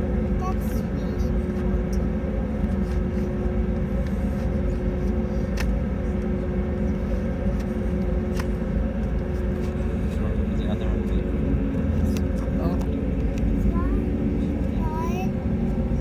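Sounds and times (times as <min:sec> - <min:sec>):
deep aircraft cabin rumble: 0:00.0 - 0:16.0
mid-pitched hum: 0:00.0 - 0:16.0.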